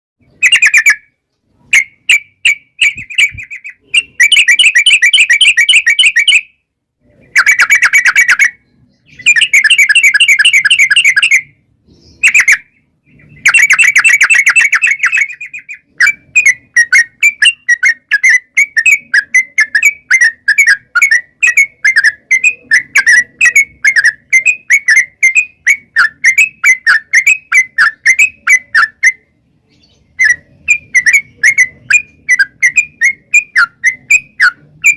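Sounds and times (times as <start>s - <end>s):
bird singing chattering song: 0.2s - 34.9s.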